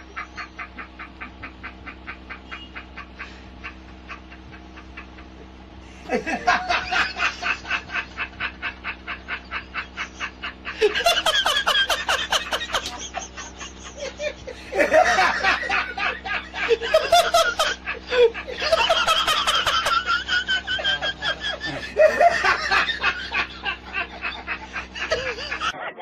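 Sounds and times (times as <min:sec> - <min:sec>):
person laughing: 0:00.0 - 0:26.0.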